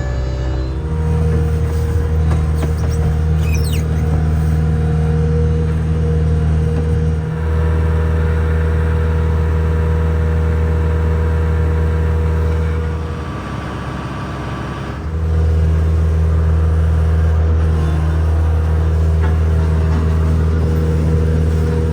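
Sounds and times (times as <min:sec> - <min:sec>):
heavy diesel engine droning: 0:00.0 - 0:21.9.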